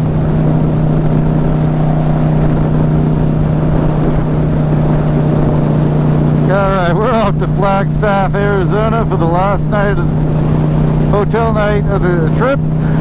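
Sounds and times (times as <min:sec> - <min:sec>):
wind noise: 0:00.0 - 0:12.0
motorcycle engine cruising: 0:00.0 - 0:13.0
road noise: 0:00.0 - 0:13.0.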